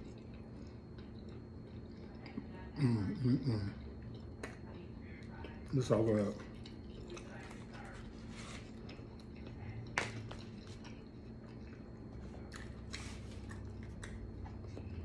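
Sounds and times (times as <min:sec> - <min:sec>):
low hum: 0:00.0 - 0:15.0
soft chewing: 0:00.0 - 0:15.0.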